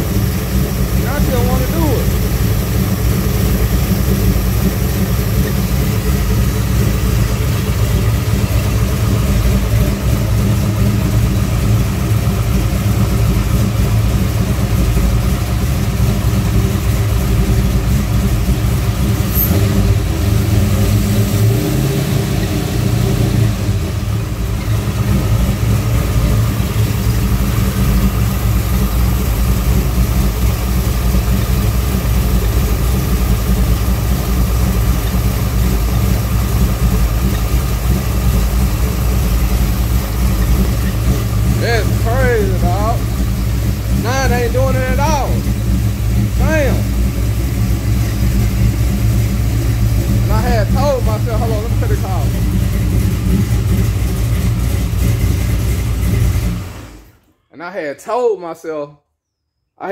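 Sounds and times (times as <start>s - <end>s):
car engine idling: 0.0s - 57.2s
engine belt running: 0.0s - 57.2s.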